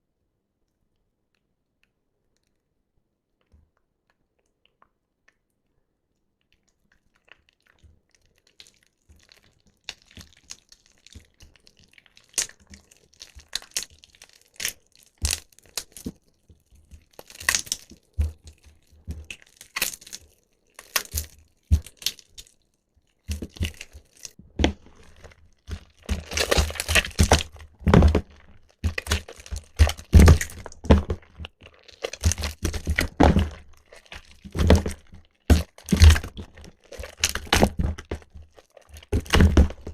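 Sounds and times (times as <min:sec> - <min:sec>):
wet soap crackling when squeezed: 0:03.4 - 0:39.9.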